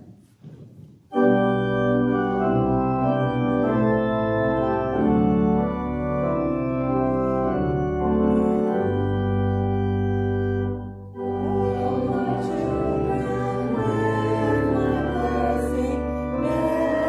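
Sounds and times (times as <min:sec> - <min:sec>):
church organ playing a hymn: 0:01.1 - 0:17.0.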